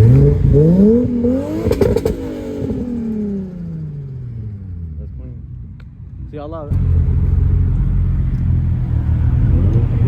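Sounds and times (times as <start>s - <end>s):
car engine accelerating: 0.0s - 5.4s, 6.6s - 10.0s.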